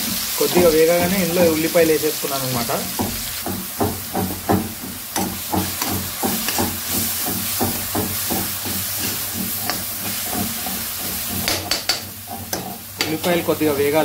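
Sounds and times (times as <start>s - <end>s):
onions sizzling in hot oil: 0.0s - 14.0s
spatula scraping a wok: 0.0s - 14.0s.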